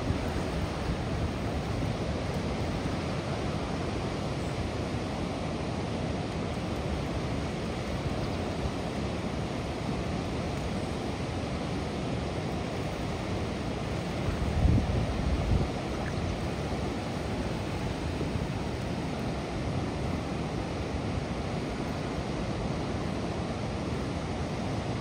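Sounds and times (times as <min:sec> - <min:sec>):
water rushing over dam: 0:00.0 - 0:25.0.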